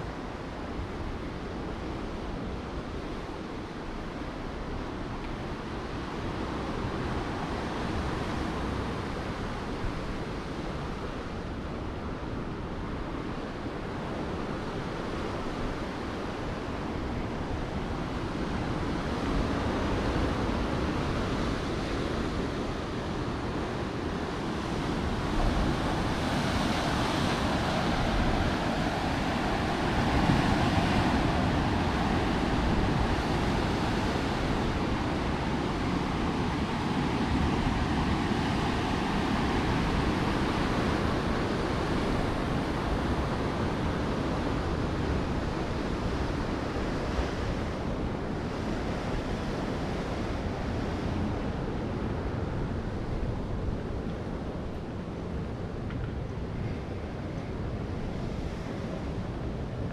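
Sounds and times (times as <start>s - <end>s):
sea surf rushing: 0.0s - 59.9s
wind on microphone: 0.0s - 59.9s.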